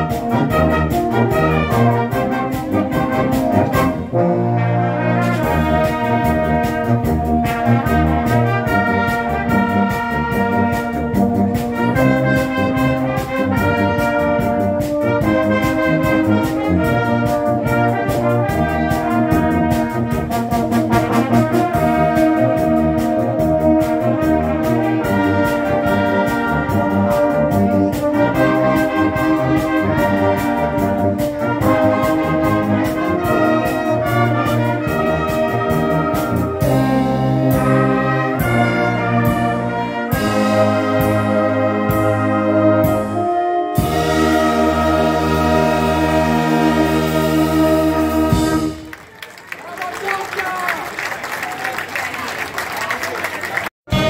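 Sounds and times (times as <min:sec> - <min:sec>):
wind band playing: 0:00.0 - 0:54.0.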